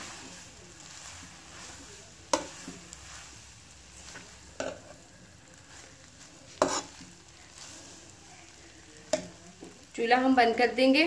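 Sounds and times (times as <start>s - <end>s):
spatula stirring spaghetti in wok: 0.0s - 10.8s
faint sizzle: 0.0s - 11.0s.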